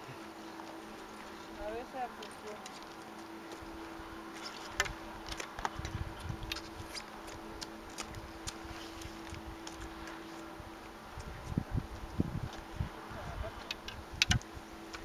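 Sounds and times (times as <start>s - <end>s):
steady low buzz: 0.0s - 15.0s.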